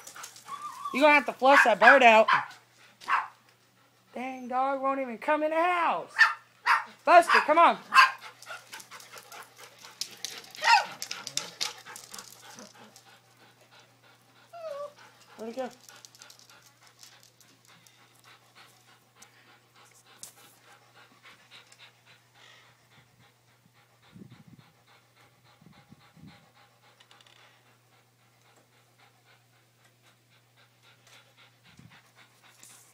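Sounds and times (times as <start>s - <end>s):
dog panting: 0.0s - 5.0s, 6.8s - 32.9s.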